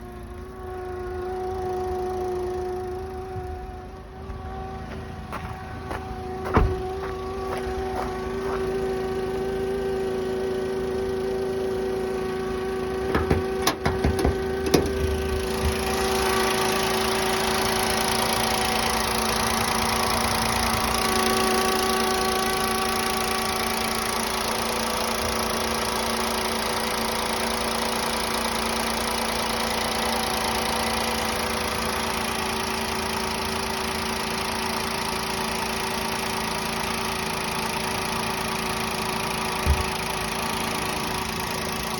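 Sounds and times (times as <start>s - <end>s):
car engine idling: 0.0s - 41.9s
whining hum: 0.0s - 41.9s.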